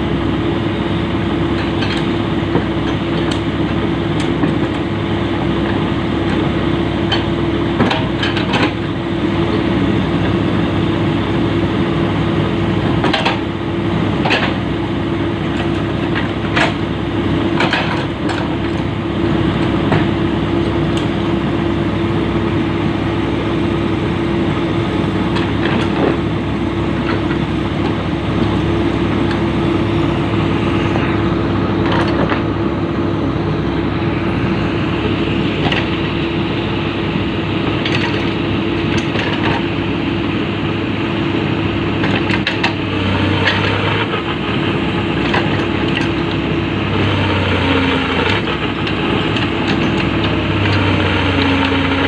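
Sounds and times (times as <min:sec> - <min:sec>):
excavator diesel engine running: 0:00.0 - 0:52.0
knocks and clanks from tracks: 0:01.4 - 0:10.5, 0:11.4 - 0:21.8, 0:24.7 - 0:32.9, 0:34.0 - 0:40.1, 0:41.0 - 0:52.0.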